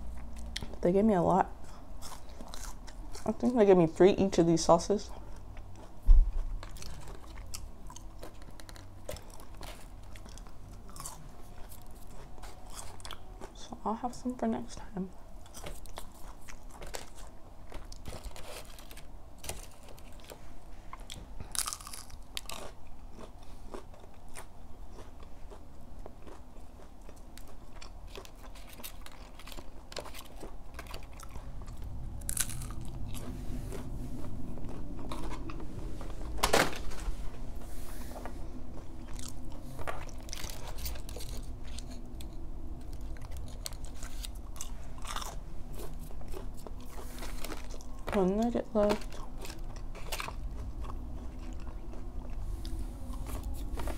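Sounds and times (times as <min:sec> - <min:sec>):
biting and chewing crisp food: 0:00.0 - 0:14.6, 0:15.2 - 0:37.6, 0:38.2 - 0:53.9.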